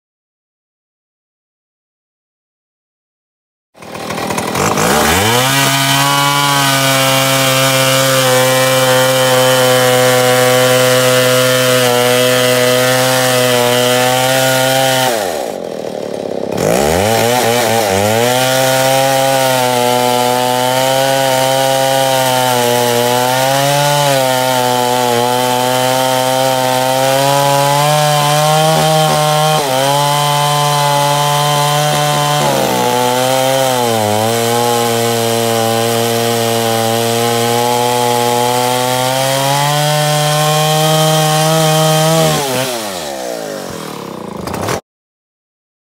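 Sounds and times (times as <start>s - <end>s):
chainsaw cutting log: 3.8s - 44.8s.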